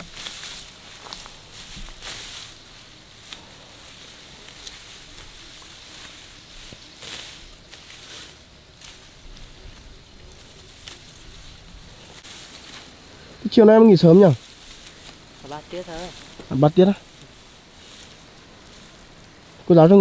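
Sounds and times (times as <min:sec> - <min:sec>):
grass and leaves rustling: 0:00.0 - 0:20.0.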